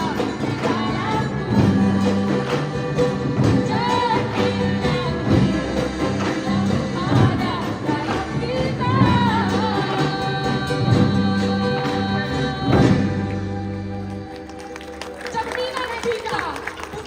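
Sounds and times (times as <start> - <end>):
person singing: 0.0 - 14.6
live band playing: 0.0 - 17.0.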